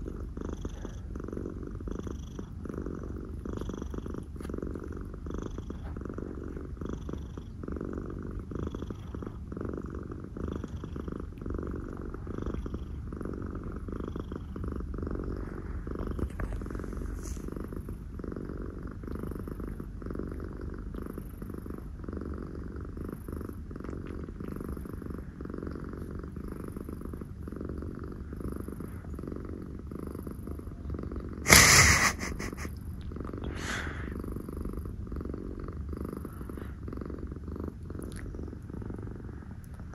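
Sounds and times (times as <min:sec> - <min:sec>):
cats purring: 0:00.0 - 0:39.9.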